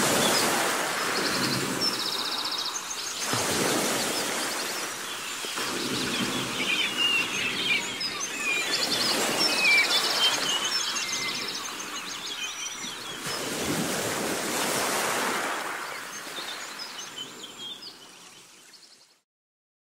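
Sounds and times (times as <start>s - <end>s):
waves rushing: 0.0s - 18.0s
small birds chirping and trilling: 0.0s - 19.2s.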